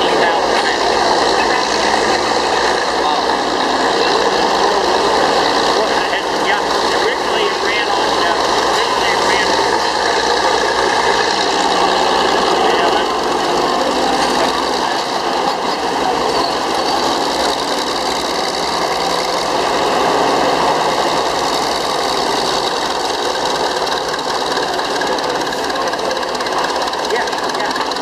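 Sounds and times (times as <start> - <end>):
diesel engine clattering: 0.0 - 28.0.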